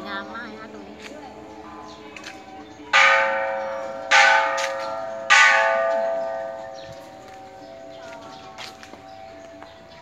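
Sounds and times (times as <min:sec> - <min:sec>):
temple bell ringing: 0:01.6 - 0:09.7.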